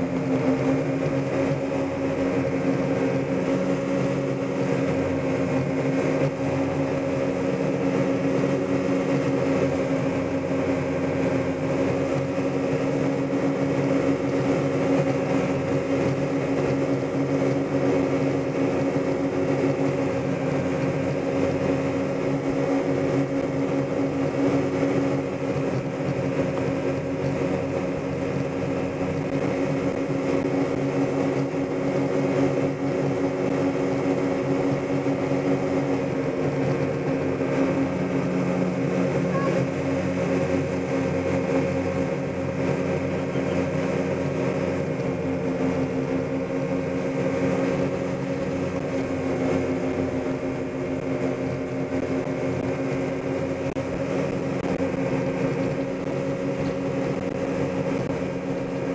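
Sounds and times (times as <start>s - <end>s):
motorboat engine droning: 0.0s - 58.9s
water rushing in wake: 0.0s - 58.9s.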